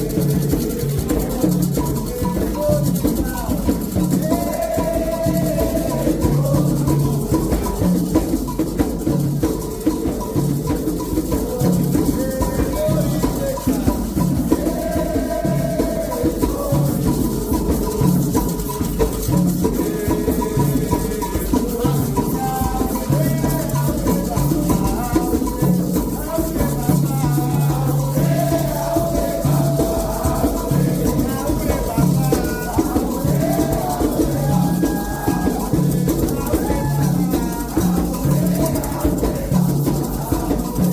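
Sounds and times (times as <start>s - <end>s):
hand drums beating: 0.0s - 40.9s
rattle shaking: 0.0s - 40.9s
voices singing a chant: 0.0s - 40.9s.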